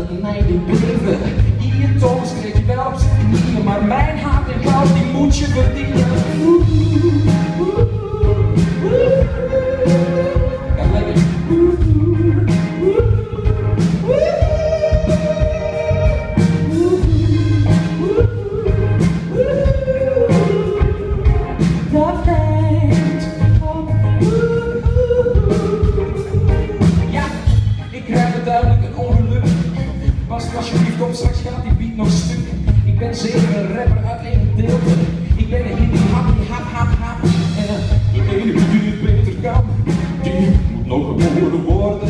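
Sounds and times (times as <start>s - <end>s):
live band playing: 0.0s - 42.0s
person singing: 0.0s - 42.0s
steady drum beat: 0.0s - 42.0s.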